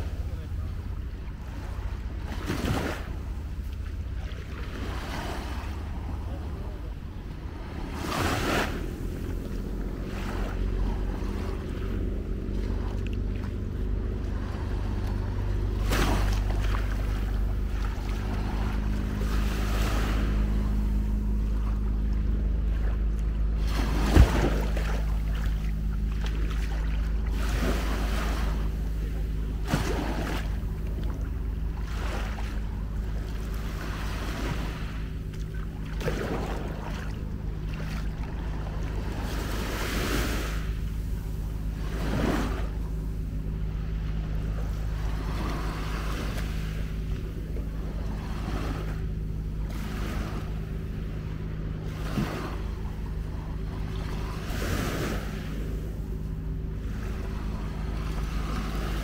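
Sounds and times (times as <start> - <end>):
small waves washing onto sand: 0.0 - 59.0
steady low hum: 0.0 - 59.0
wind rumbling on microphone: 0.0 - 59.0.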